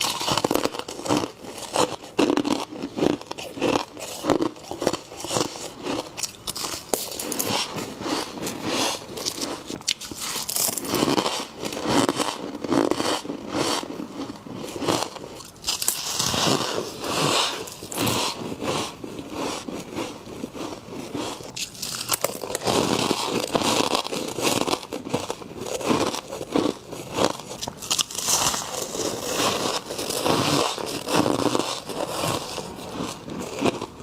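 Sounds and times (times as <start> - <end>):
crunchy chewing: 0.0 - 34.0.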